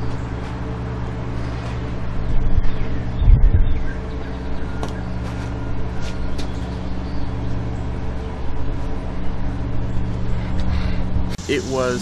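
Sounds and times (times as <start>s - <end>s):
steady droning engine hum: 0.0s - 12.0s.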